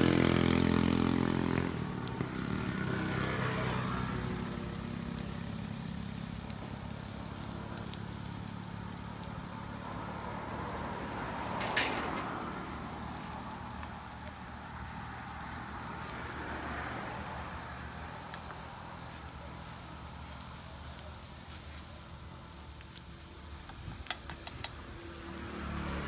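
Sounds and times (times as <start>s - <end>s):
low hum of engines: 0.0s - 26.0s
meat sizzling on grill: 0.0s - 26.0s
sharp crackle: 0.0s - 26.0s.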